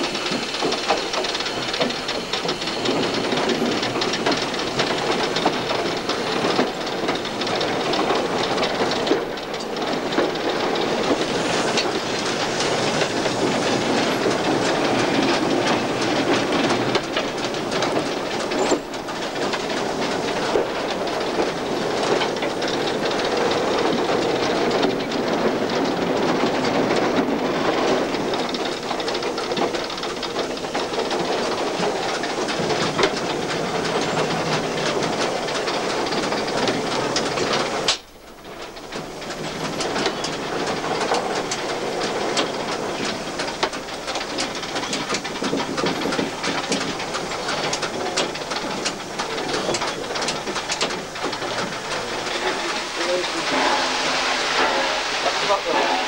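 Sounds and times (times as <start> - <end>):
locomotive rattling and clanking: 0.0 - 56.0
steam hissing: 0.0 - 56.0.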